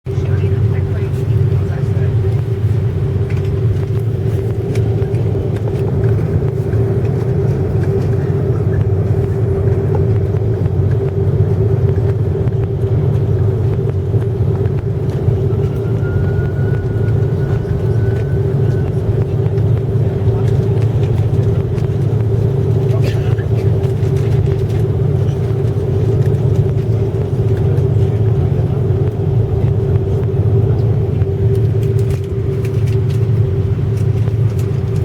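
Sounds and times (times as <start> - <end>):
airliner cabin drone: 0.1 - 35.0.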